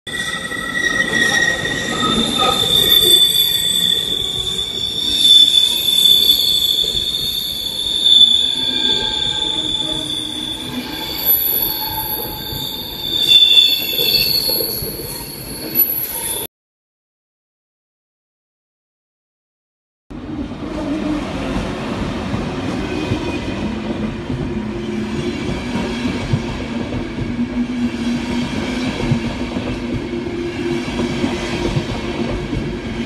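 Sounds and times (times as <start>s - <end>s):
rumble of passing train cars: 0.1s - 16.5s, 20.1s - 33.0s
train wheels squealing: 0.1s - 16.5s, 22.6s - 33.0s.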